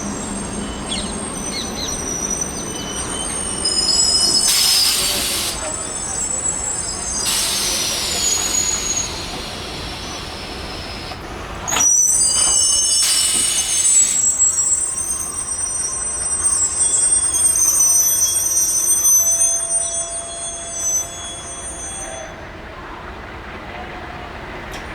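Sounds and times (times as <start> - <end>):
high-pitched wheel squeal: 0.0 - 22.6
train coaches rolling past: 0.0 - 24.9.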